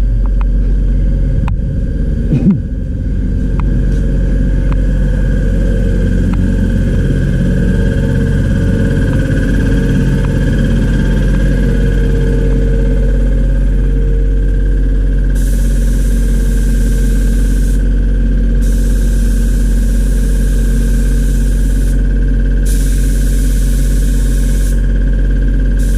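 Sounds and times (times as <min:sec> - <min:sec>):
motor humming: 0:00.0 - 0:25.9.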